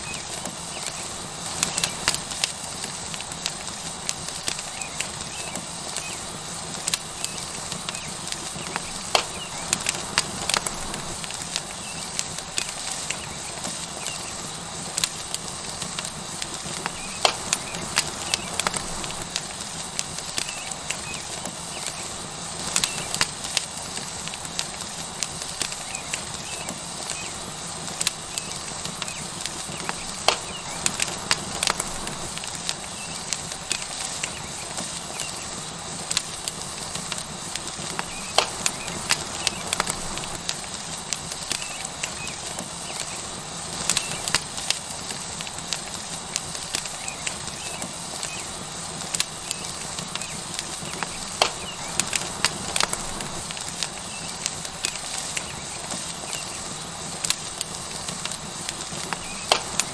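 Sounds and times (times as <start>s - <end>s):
steak sizzling on hot rock: 0.0s - 59.9s
wood fire crackling and popping: 0.0s - 59.9s.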